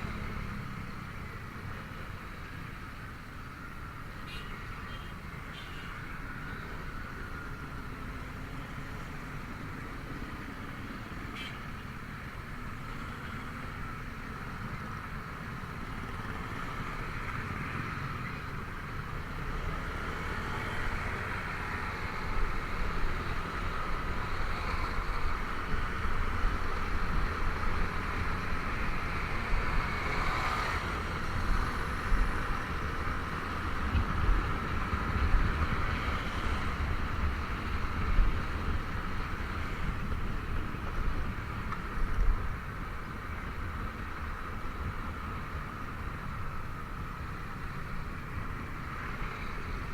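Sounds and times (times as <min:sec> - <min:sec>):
road noise: 0:00.0 - 0:49.9.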